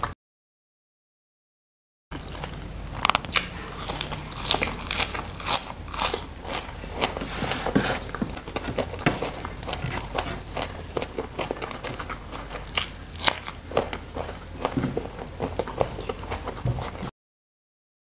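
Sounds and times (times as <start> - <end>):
chewing crunchy lettuce: 2.2 - 17.1.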